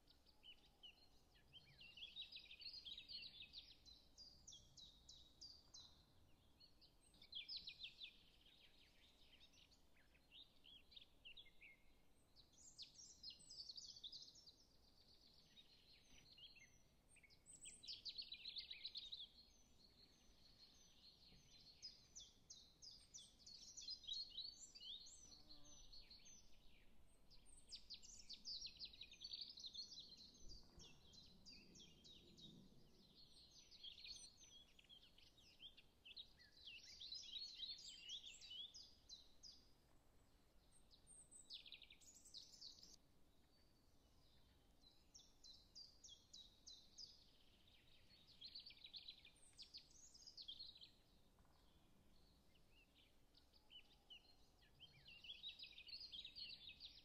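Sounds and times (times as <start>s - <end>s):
many small birds chirping: 0.0s - 39.7s, 40.6s - 57.0s.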